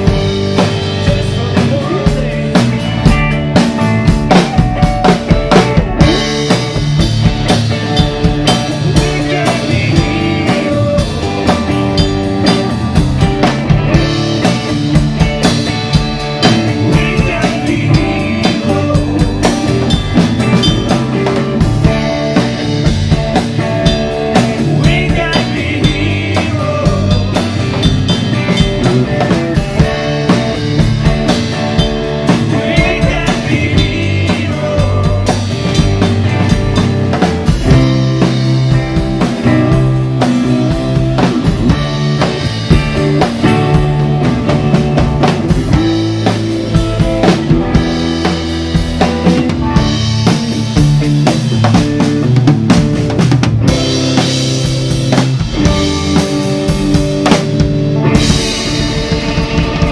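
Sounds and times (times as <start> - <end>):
drum kit beat: 0.0 - 59.9
electric guitar: 0.0 - 59.9
live band playing: 0.0 - 59.9.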